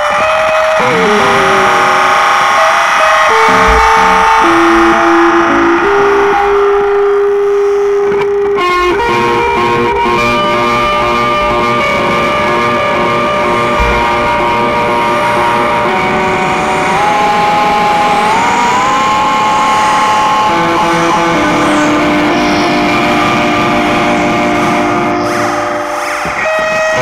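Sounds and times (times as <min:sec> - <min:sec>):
drone music with held tones: 0:00.0 - 0:27.0.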